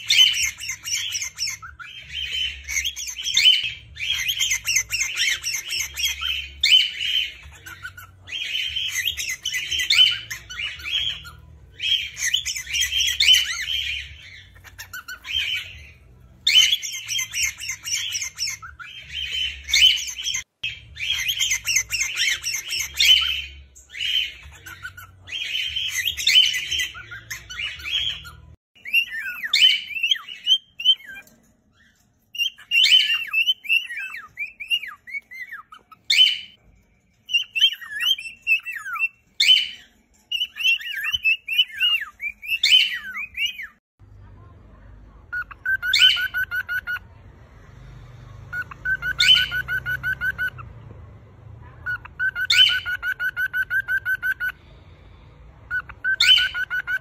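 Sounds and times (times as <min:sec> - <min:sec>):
cockatiels chirping and singing: 0:00.0 - 0:43.8, 0:45.1 - 0:57.0.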